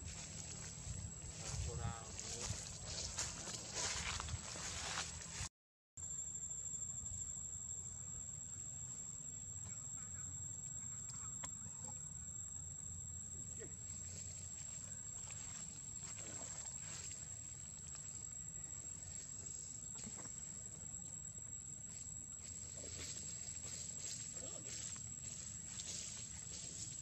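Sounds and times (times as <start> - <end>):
high-pitched insect drone: 0.0 - 5.2, 6.0 - 27.0.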